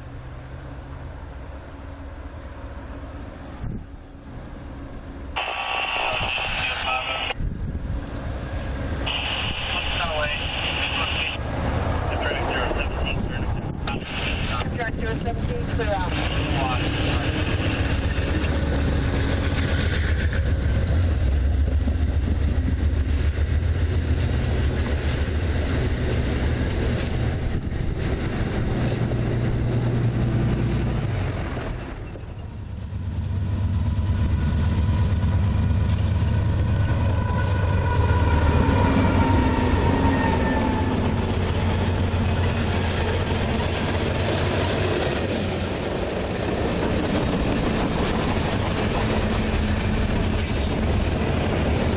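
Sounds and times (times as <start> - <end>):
freight train rumbling past: 0.0 - 5.6, 7.4 - 51.9.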